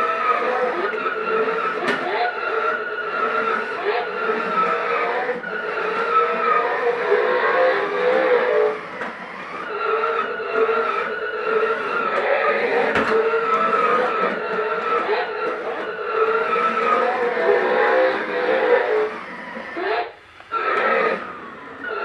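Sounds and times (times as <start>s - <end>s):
toy car engine sound effect: 0.0s - 22.0s.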